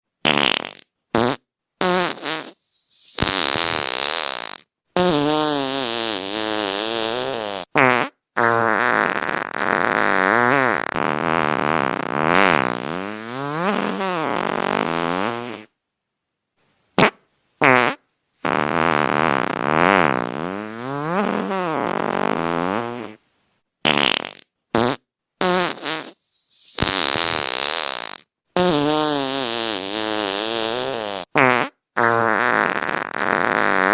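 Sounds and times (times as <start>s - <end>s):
fart sounds: 0.2s - 15.8s, 17.0s - 23.2s, 23.8s - 33.9s.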